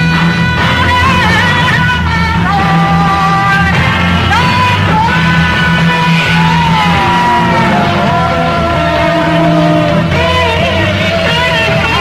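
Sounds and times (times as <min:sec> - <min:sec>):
electric guitar sliding notes: 0:00.0 - 0:12.0
low bass line: 0:00.0 - 0:12.0.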